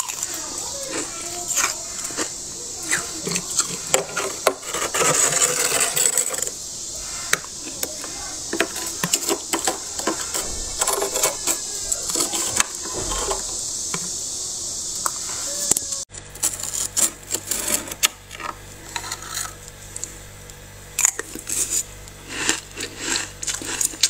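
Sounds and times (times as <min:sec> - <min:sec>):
utensil scraping frost in freezer: 0:00.0 - 0:14.1, 0:15.2 - 0:20.1, 0:21.1 - 0:24.0.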